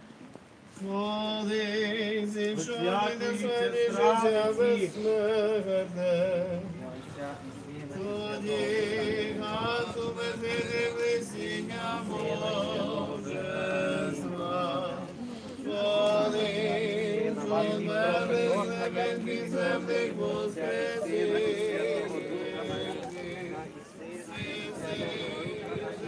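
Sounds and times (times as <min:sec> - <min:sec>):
voices singing church chant: 0:00.8 - 0:26.0.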